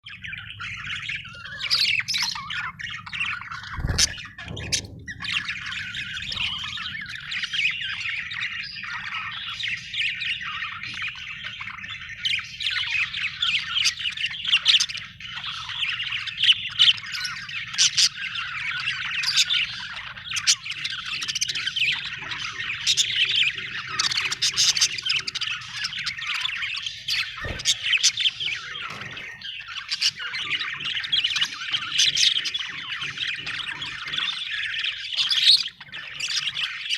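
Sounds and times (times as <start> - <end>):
budgerigar chirping: 0.1 - 36.9.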